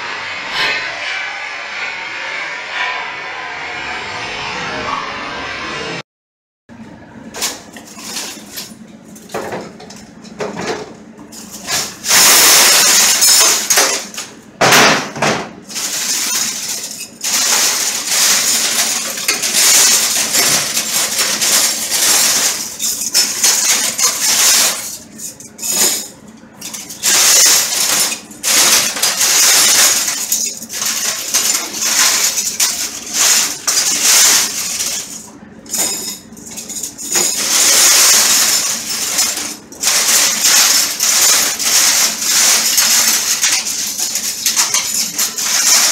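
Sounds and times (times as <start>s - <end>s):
cutlery clattering: 7.4s - 45.9s.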